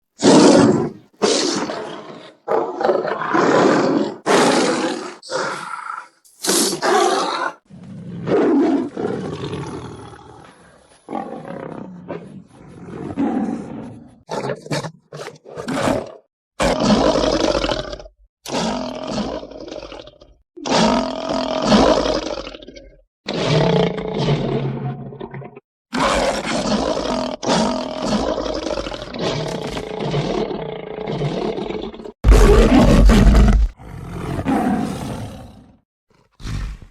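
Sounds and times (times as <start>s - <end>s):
big cat roars and snarls: 0.2s - 36.9s.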